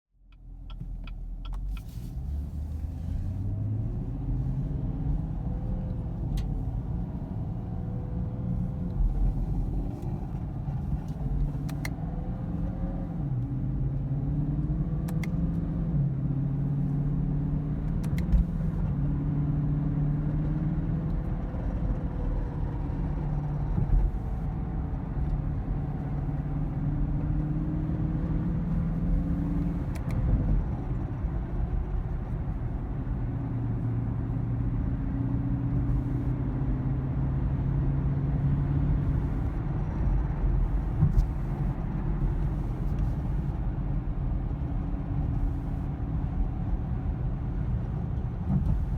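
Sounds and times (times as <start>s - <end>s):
car engine rumbling: 0.2s - 48.9s.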